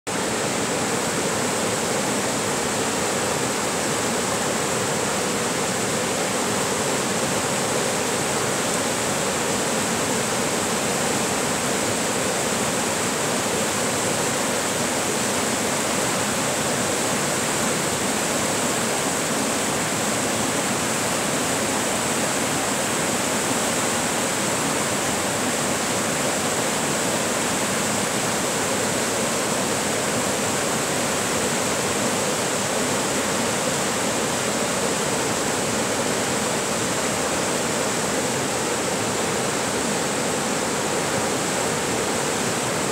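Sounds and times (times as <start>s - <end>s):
water rushing over rocks: 0.1s - 42.9s.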